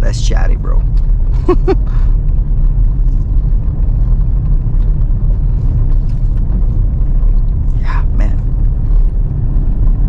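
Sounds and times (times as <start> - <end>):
truck engine and road rumble: 0.0 - 10.0.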